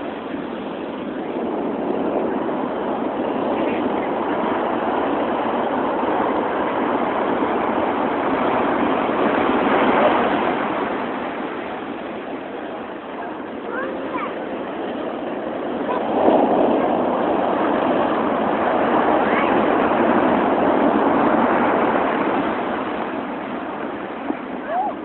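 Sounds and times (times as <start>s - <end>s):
storm surf waves breaking: 0.0s - 25.0s.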